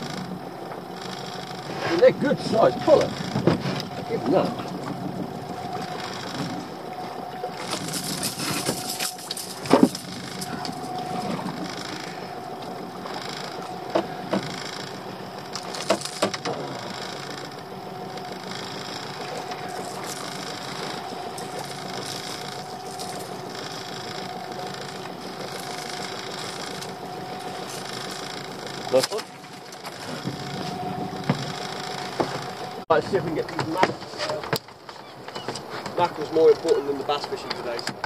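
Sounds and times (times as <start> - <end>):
boat engine idling: 0.0 - 38.0
knocks and rattles aboard: 0.0 - 38.0.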